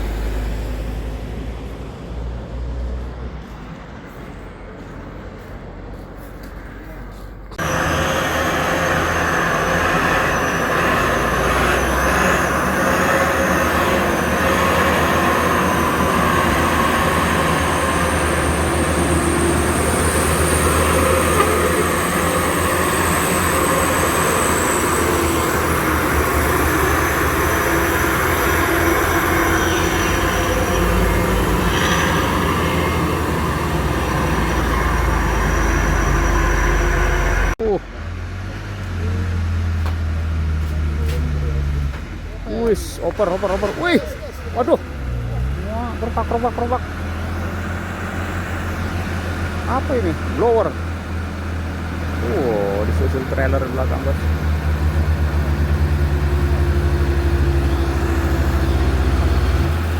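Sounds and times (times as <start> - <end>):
heavy truck engine running hard: 0.0 - 59.9.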